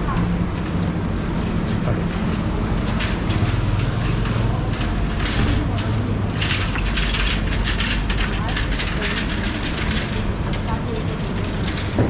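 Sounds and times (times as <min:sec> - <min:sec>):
large vehicle engine humming: 0:00.0 - 0:12.0.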